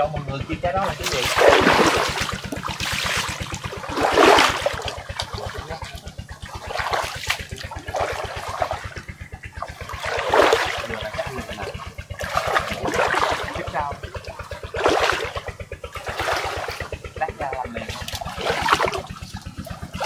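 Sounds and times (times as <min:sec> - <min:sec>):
rapid low throbbing: 0:00.0 - 0:20.0
water splashing and pouring: 0:00.8 - 0:17.1, 0:17.8 - 0:20.0.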